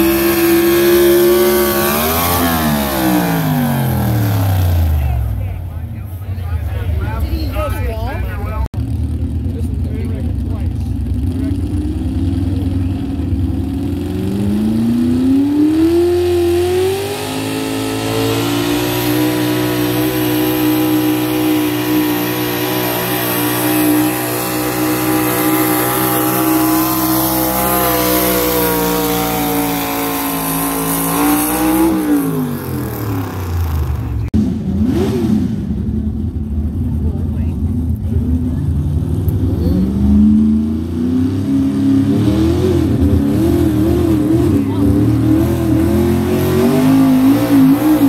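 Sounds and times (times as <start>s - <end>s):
diesel truck engine revving: 0.0s - 48.0s.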